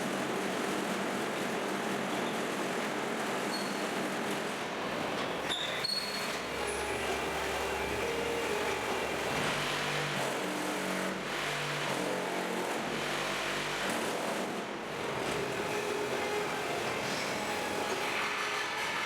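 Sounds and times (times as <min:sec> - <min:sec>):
concrete block machine running: 0:00.0 - 0:19.0.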